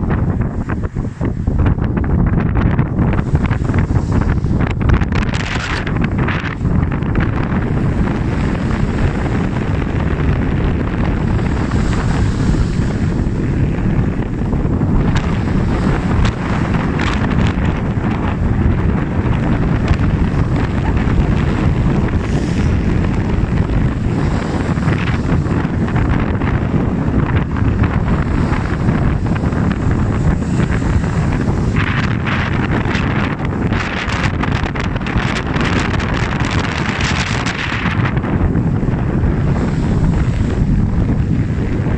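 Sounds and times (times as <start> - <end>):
strong wind buffeting microphone: 0.0 - 41.9.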